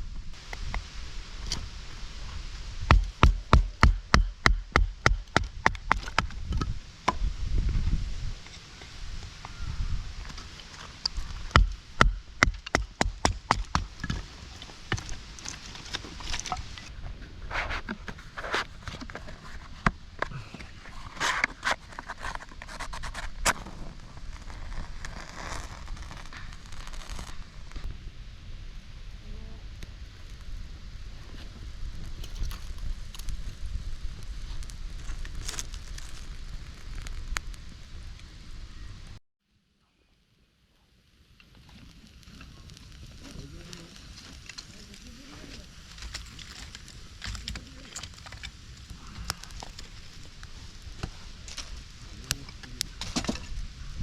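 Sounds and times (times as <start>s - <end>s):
wood fire crackling: 0.0s - 39.2s, 40.2s - 54.0s
steady fire hiss: 0.0s - 54.0s.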